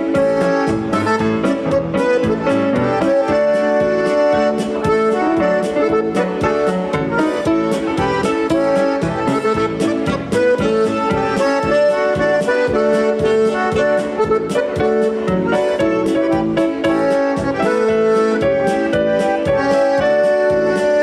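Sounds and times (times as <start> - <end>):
accordion melody: 0.0 - 21.0
polka band playing: 0.0 - 21.0.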